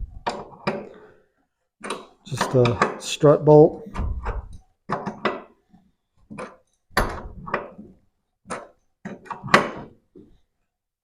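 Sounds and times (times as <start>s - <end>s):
metal tools clunking and knocking: 0.1s - 1.1s, 1.8s - 3.2s, 3.9s - 10.4s.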